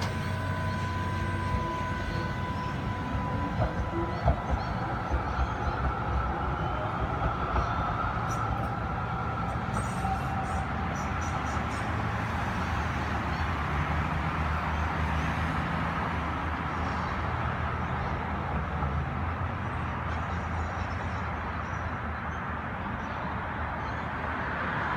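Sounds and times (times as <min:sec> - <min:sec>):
tram running: 0:00.0 - 0:24.9.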